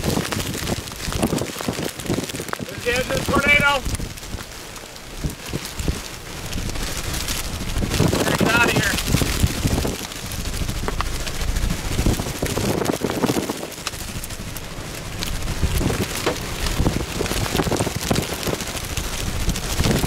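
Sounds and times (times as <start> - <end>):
rain pattering on a car: 0.0 - 20.0
wind gusts on microphone: 0.0 - 20.0.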